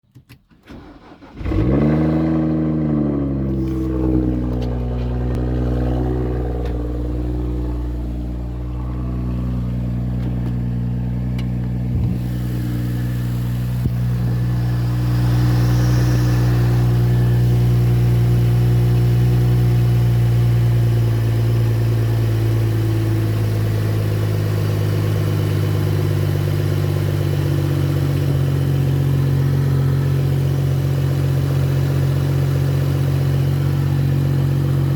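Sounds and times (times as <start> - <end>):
car engine starting and idling: 0.1 - 34.9.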